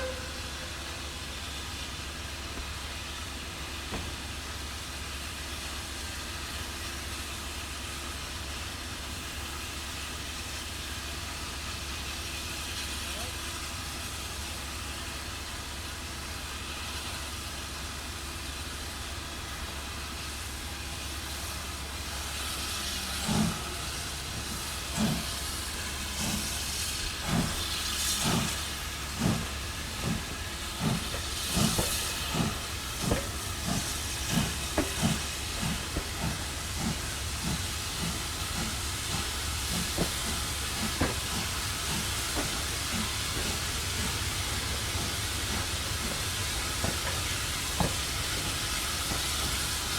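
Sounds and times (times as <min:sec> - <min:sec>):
steam locomotive exhaust beats: 0:00.0 - 0:49.9
steam locomotive hissing: 0:00.0 - 0:49.9.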